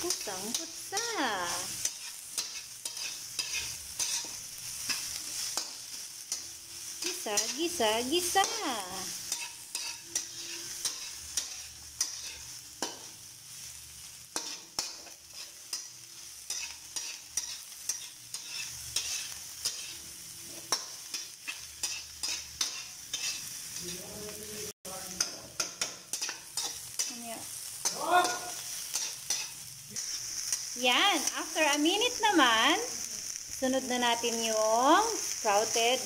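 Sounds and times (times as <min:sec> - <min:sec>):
metal spatula scraping wok: 0:00.0 - 0:34.4
oil sizzling: 0:00.0 - 0:36.0.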